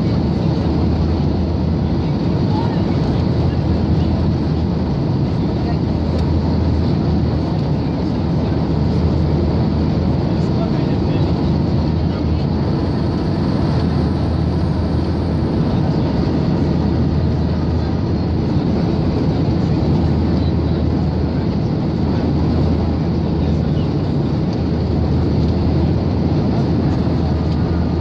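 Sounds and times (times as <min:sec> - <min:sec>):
constant low hum: 0:00.0 - 0:28.0
jet engine roar in cabin: 0:00.0 - 0:28.0.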